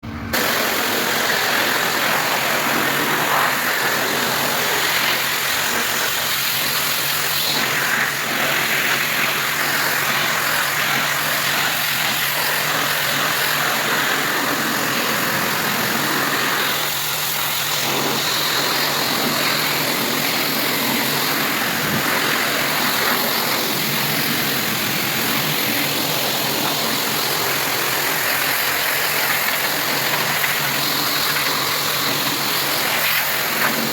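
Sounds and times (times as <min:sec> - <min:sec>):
pressure washer engine hum: 0:00.0 - 0:33.9
high-pressure water spray hissing: 0:00.1 - 0:33.9.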